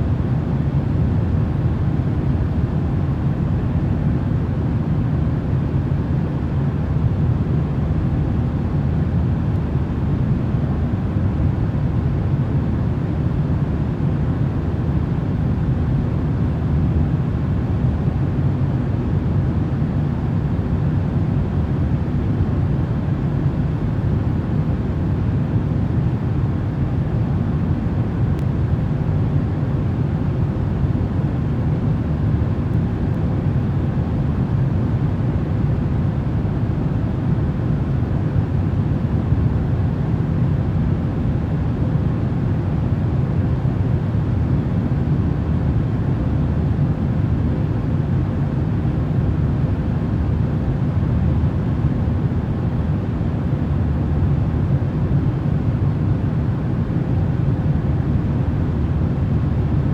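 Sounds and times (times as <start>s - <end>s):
low rumbling white noise hiss: 0.0s - 59.9s.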